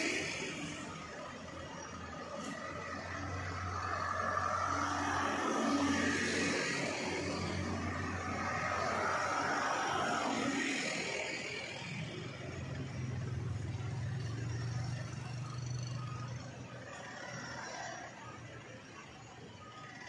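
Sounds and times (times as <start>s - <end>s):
dump truck diesel engine: 0.0s - 20.0s.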